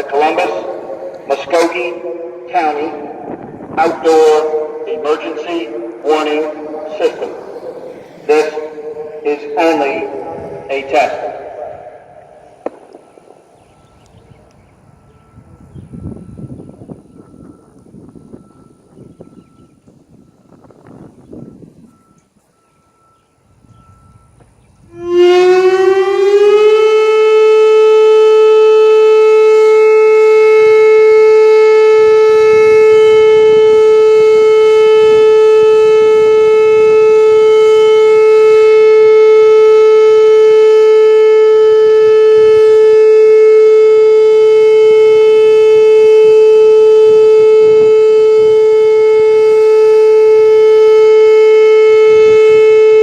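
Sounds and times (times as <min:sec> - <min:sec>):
warning siren steady tone: 0:00.0 - 0:53.0.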